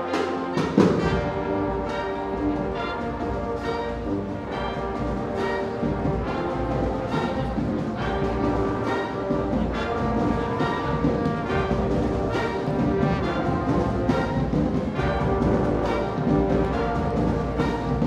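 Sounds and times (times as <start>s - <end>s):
brass section playing chords: 0.0s - 18.0s
drums: 0.0s - 18.0s.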